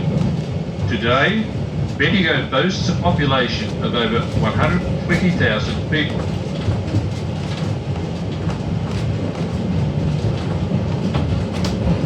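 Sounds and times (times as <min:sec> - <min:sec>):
tram rumbling: 0:00.0 - 0:12.0
wheels clicking on rails: 0:00.0 - 0:12.0.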